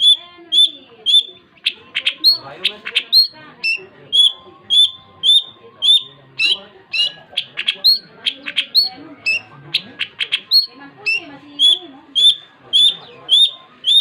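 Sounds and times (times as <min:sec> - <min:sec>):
bird harsh clicking chatter: 0:00.0 - 0:14.0.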